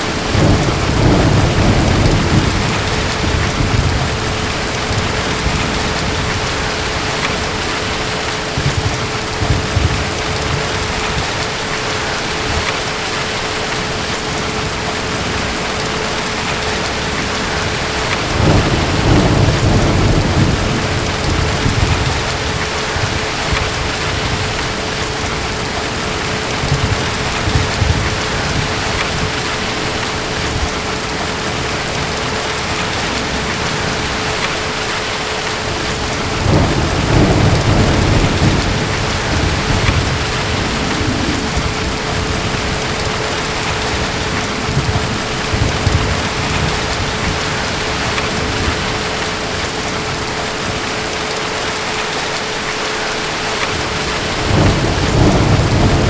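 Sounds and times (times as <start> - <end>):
distant thunder rumbling: 0.0 - 52.2, 53.2 - 56.0
heavy rain: 0.0 - 56.0.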